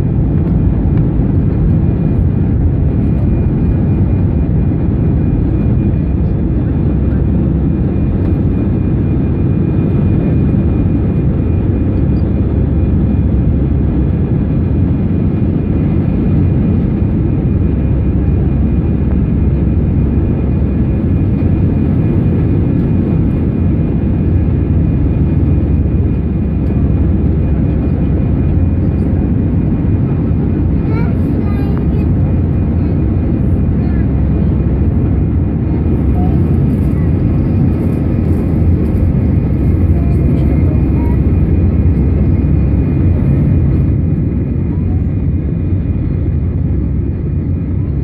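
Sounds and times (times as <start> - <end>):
aircraft engine and airflow rumble: 0.0 - 48.0.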